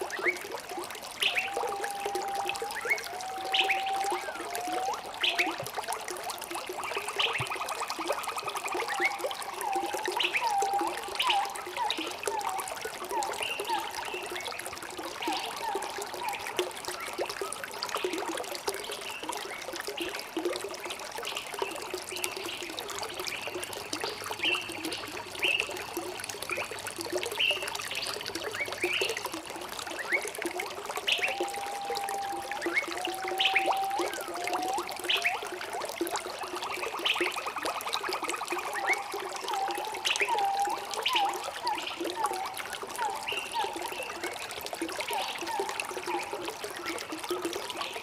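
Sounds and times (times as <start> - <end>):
water trickling and splashing: 0.0 - 48.0.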